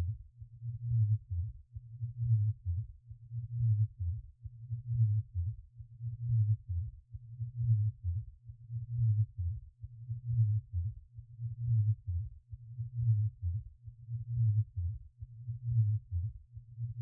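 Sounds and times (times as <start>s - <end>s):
slow deep heartbeat: 0.0s - 17.0s.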